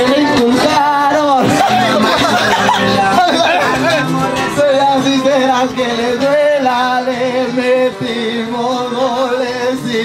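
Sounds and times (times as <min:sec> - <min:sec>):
backing music: 0:00.0 - 0:10.0
man singing into a microphone: 0:00.0 - 0:10.0.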